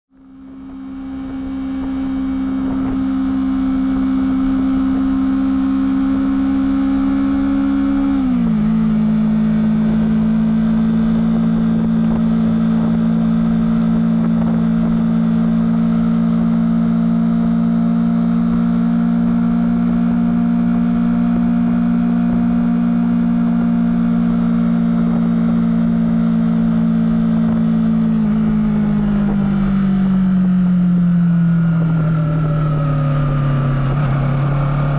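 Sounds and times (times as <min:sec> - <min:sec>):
motorcycle engine at high revs: 0:00.1 - 0:34.9.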